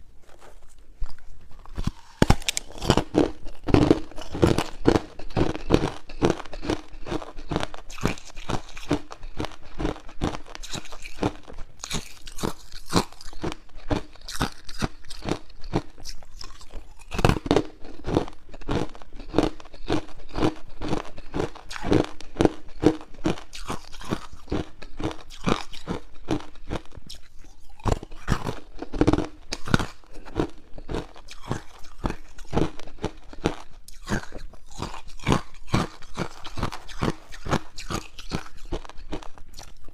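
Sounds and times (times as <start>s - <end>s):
ice cubes crunched between teeth: 0.2s - 39.9s.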